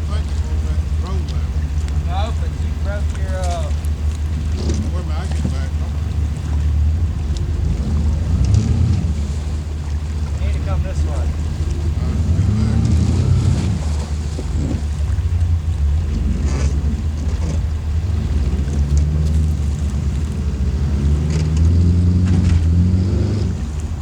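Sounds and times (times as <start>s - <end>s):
boat motor rumble: 0.0s - 24.0s
wind buffeting microphone: 0.0s - 24.0s.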